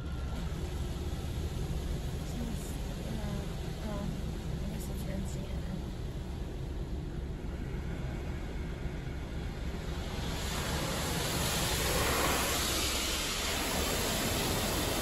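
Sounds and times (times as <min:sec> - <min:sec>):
car wash rumble and rushing hiss: 0:00.0 - 0:15.0.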